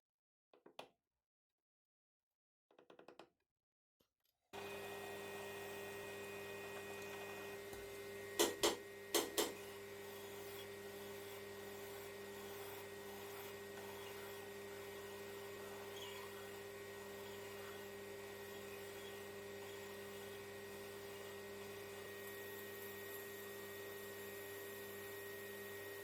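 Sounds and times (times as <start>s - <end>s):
electric motor hum: 4.6s - 26.0s.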